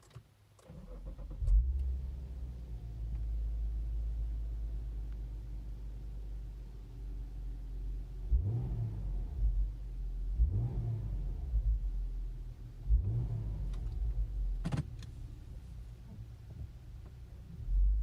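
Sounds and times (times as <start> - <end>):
car engine rumble from inside cabin: 0.6 - 18.0.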